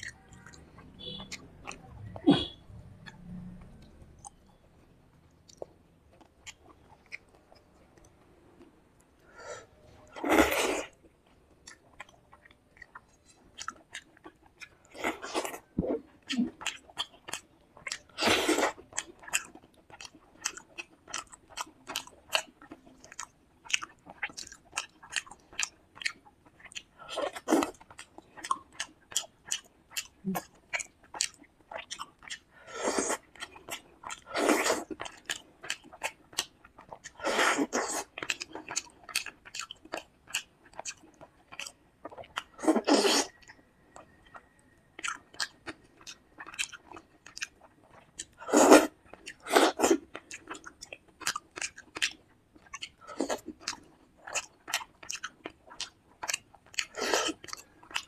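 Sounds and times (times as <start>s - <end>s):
person chewing with wet smacks: 0.0s - 9.2s, 10.1s - 58.0s.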